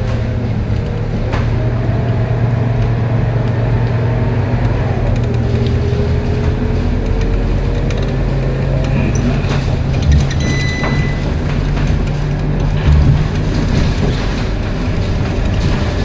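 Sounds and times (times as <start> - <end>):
diesel bus engine drone: 0.0 - 16.0
gearbox whine: 0.0 - 16.0.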